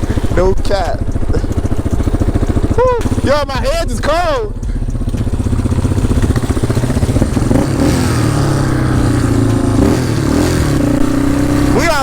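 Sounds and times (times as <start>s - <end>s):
quad engine running: 0.0s - 12.0s.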